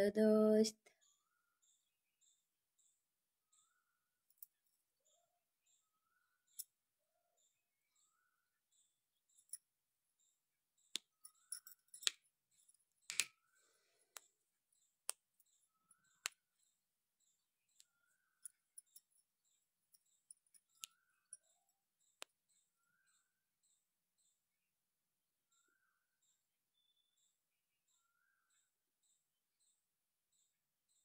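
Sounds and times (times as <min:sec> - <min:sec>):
faint bird chirp: 0:00.7 - 0:24.8, 0:25.4 - 0:31.0.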